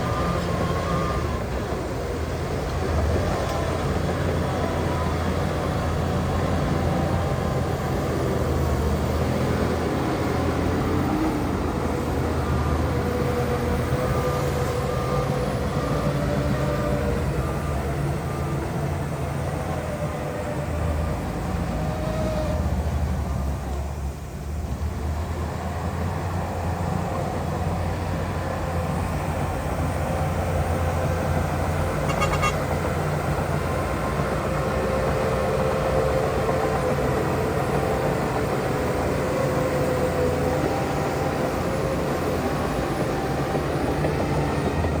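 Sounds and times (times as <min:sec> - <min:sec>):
heavy diesel engine under load: 0:00.0 - 0:45.0.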